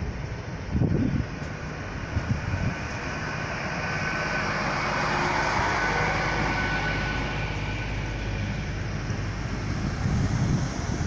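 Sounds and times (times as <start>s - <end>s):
high whine: 0.0s - 11.0s
train diesel engine rumble: 0.0s - 11.0s.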